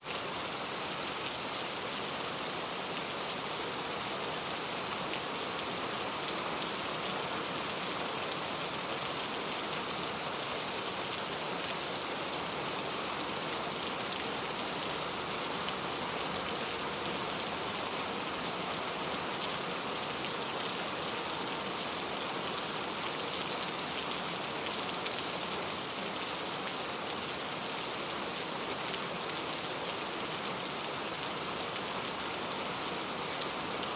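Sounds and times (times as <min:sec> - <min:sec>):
rain pattering on a surface: 0:00.1 - 0:33.9.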